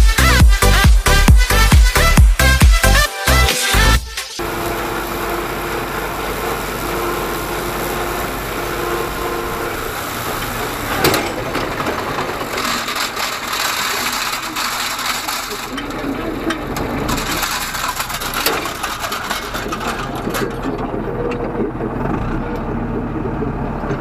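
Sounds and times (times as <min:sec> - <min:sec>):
rotary mower cutting grass: 0:00.0 - 0:24.0
tractor engine running: 0:00.0 - 0:24.0.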